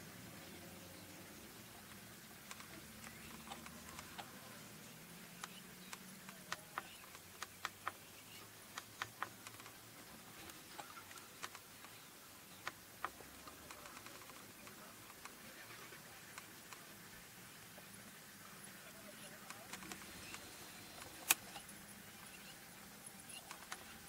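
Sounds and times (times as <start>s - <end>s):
faint low hum: 0.0s - 24.0s
faint sharp clicks: 1.0s - 24.0s.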